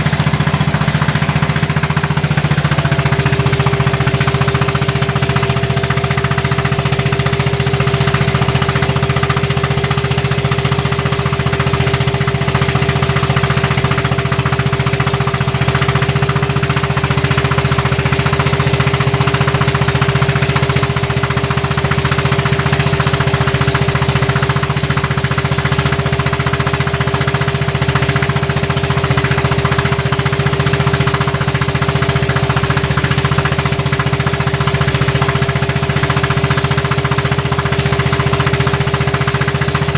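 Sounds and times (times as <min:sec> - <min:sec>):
boat diesel engine chugging: 0:00.0 - 0:39.9.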